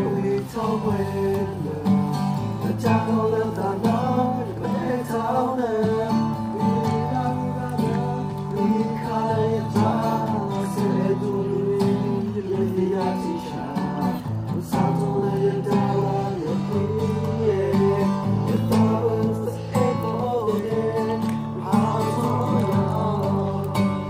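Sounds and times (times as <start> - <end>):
acoustic guitar strumming: 0.0 - 24.0
person singing: 0.0 - 24.0.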